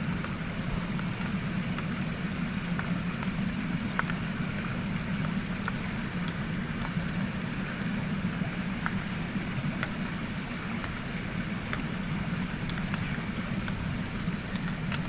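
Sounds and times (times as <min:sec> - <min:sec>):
campfire crackling: 0:00.0 - 0:15.0
stream rushing: 0:00.0 - 0:15.0.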